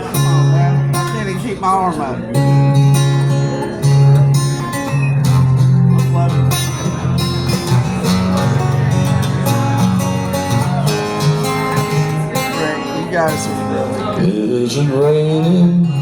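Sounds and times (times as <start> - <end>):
guitar picking and strumming: 0.0 - 16.0.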